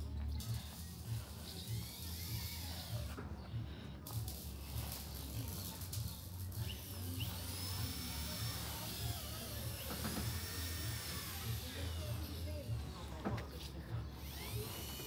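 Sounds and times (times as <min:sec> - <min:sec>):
general hiss: 0:00.0 - 0:15.0
low street rumble: 0:00.0 - 0:15.0.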